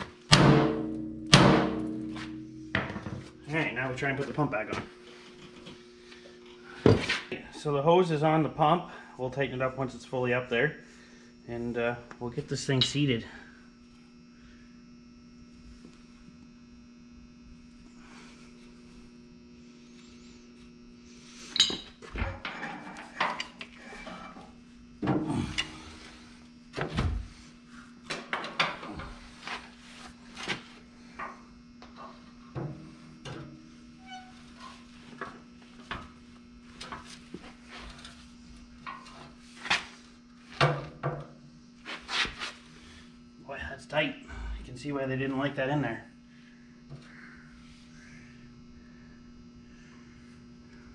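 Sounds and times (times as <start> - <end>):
steady electrical hum: 0.0 - 50.9.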